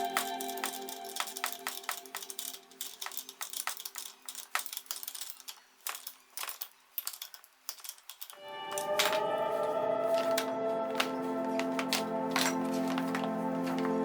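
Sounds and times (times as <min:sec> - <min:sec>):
faint background music: 0:00.0 - 0:06.8, 0:08.4 - 0:14.0.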